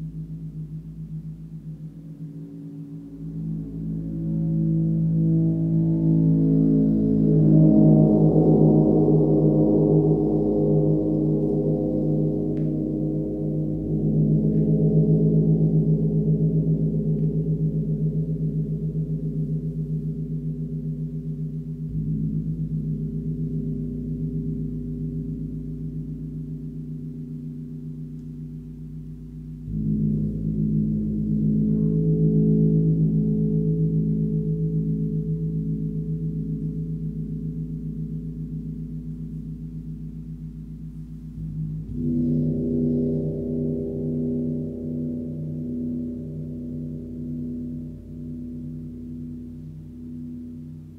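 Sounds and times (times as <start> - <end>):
deep gong hum: 0.0 - 50.9.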